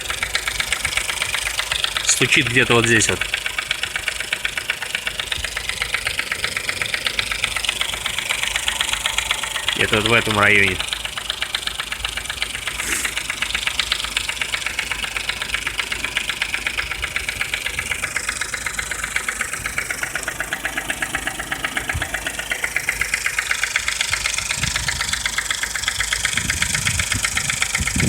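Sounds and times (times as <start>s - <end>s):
engine idling with rapid knocking: 0.0s - 28.0s.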